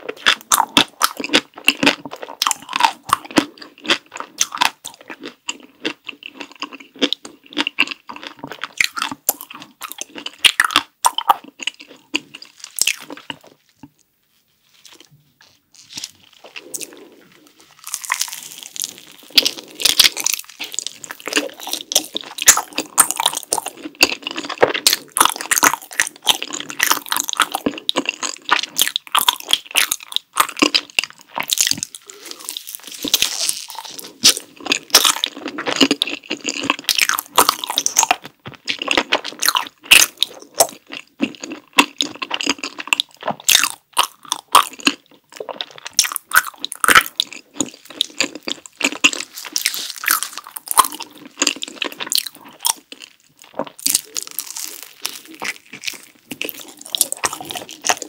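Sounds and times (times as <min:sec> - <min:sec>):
chewing and biting rice cakes: 0:00.0 - 0:58.0.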